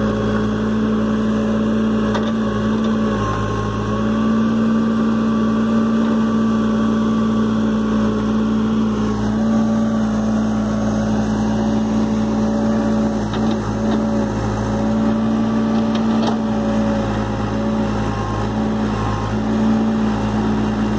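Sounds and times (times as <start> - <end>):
diesel engine whining under load: 0.0 - 20.9.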